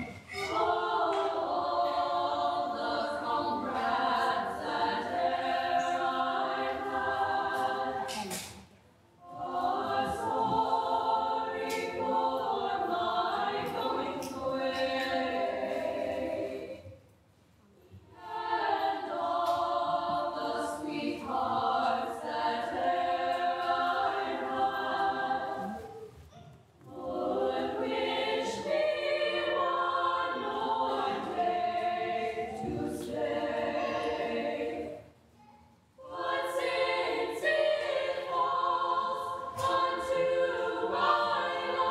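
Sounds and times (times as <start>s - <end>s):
female choir singing: 0.0s - 8.5s, 9.2s - 17.1s, 18.0s - 26.1s, 26.8s - 41.9s.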